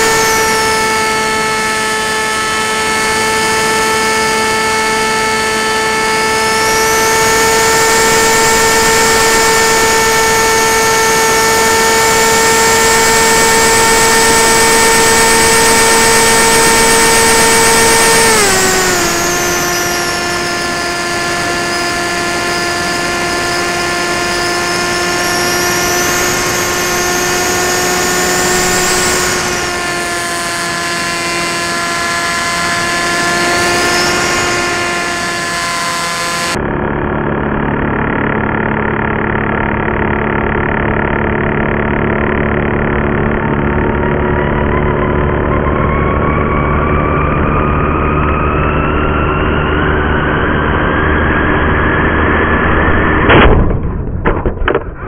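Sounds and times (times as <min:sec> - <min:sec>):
electric motor and propeller whine: 0:00.0 - 0:53.8.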